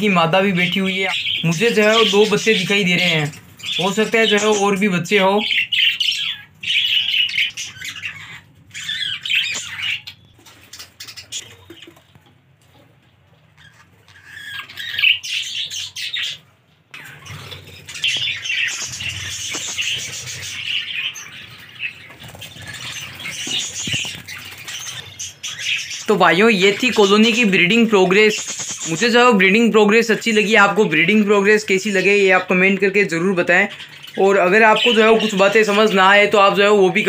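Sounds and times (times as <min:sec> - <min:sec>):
budgerigars chattering and chirping: 0:00.0 - 0:12.2, 0:13.5 - 0:37.0.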